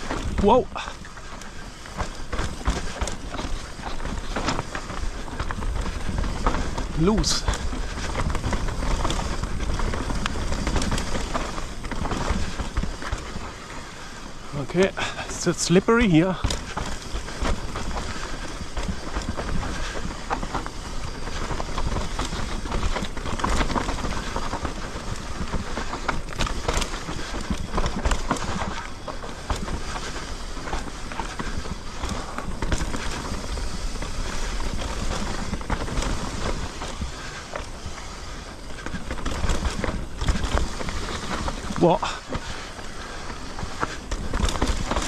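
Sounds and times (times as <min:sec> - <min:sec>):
bike rattling and knocking: 0:00.0 - 0:45.0
bike tyres grinding over gravel: 0:00.0 - 0:45.0.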